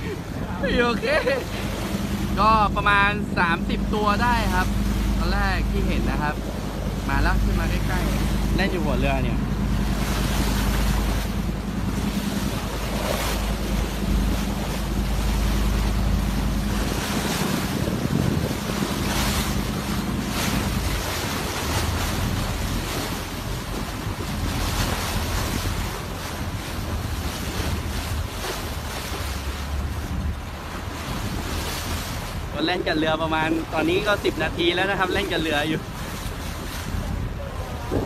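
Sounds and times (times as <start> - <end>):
boat engine hum: 0.0 - 38.0
water washing along boat: 0.0 - 38.0
wind buffeting microphone: 0.0 - 38.0.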